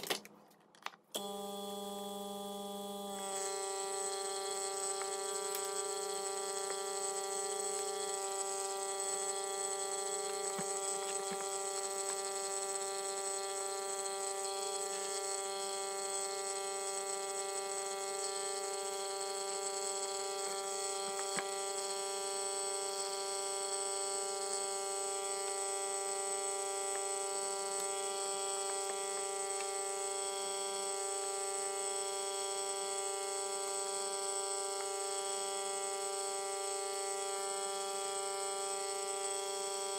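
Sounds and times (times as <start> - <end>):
vacuum pump motor humming: 1.2 - 39.9.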